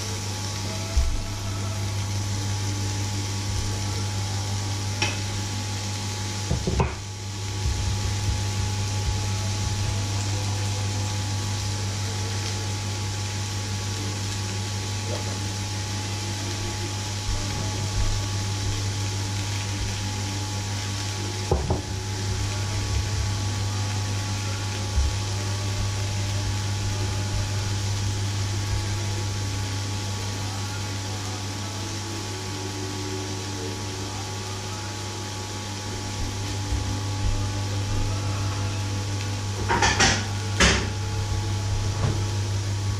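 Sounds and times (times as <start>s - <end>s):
low machine hum: 0.0s - 42.9s
meat frying hiss: 0.0s - 42.9s.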